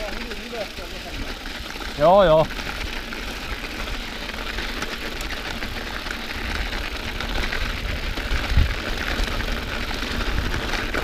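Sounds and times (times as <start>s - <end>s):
bike tyres crunching on snow: 0.0s - 11.0s.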